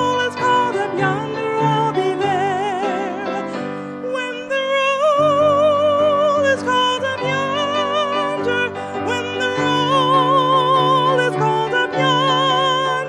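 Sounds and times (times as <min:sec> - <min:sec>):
piano accompaniment: 0:00.0 - 0:13.0
woman singing a hymn: 0:00.0 - 0:13.0.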